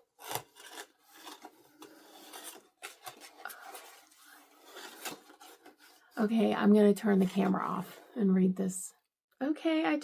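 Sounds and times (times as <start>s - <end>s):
paper and card rustling: 0.0s - 8.0s.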